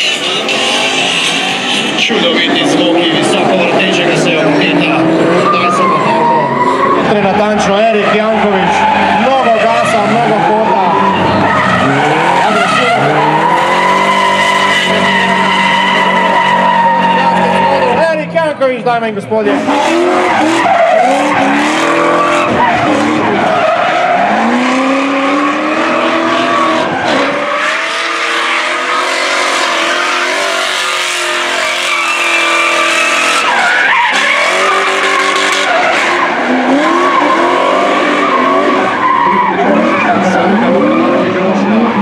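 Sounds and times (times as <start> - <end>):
car engine revving hard: 0.0 - 18.0, 19.5 - 42.0
tyres screeching: 0.0 - 18.4, 19.5 - 42.0.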